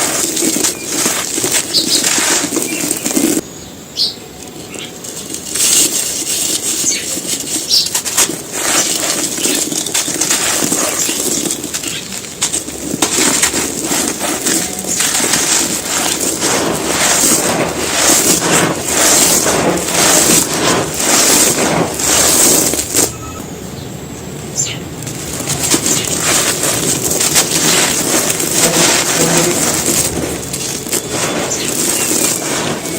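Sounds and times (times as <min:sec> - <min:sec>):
cement being crumbled and crushed: 0:00.0 - 0:03.4, 0:04.4 - 0:23.4, 0:24.6 - 0:32.9.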